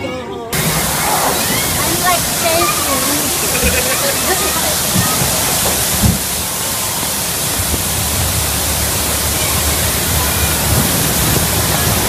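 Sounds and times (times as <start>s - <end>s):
water rushing in flume: 0.6s - 12.0s.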